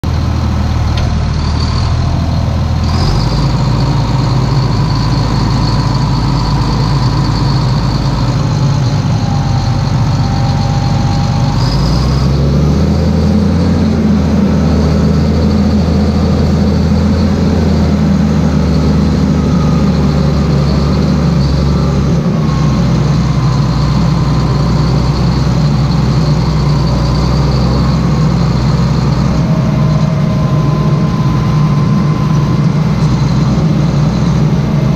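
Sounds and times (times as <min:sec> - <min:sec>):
tractor diesel engine running: 0:00.0 - 0:34.9
faint high whine: 0:00.1 - 0:12.3, 0:15.1 - 0:34.9.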